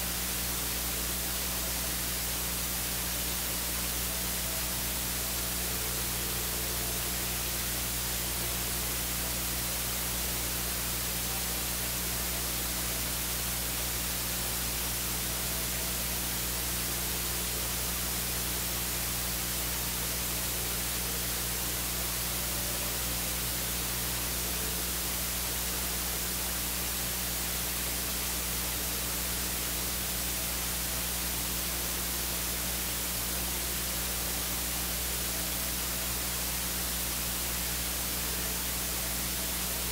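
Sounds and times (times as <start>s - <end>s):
low electrical hum: 0.0s - 39.9s
steady hiss: 0.0s - 39.9s.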